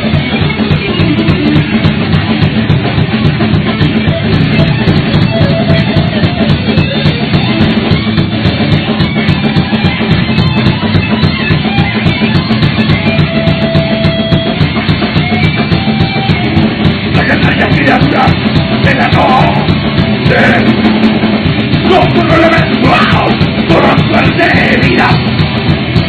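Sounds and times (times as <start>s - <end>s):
distorted electric guitars: 0.0s - 26.0s
fast drum beat with cymbals: 0.0s - 26.0s.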